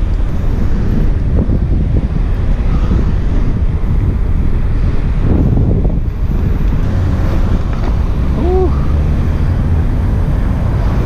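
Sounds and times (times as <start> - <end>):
low traffic rumble: 0.0 - 11.0
wind buffeting microphone: 0.0 - 11.0.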